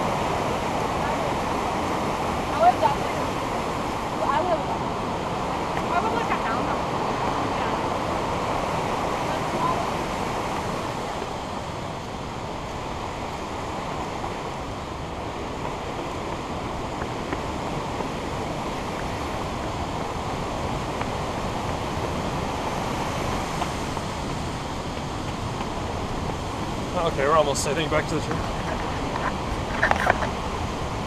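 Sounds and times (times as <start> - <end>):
rushing whitewater creek: 0.0 - 31.0
wind buffeting microphone: 0.0 - 31.0.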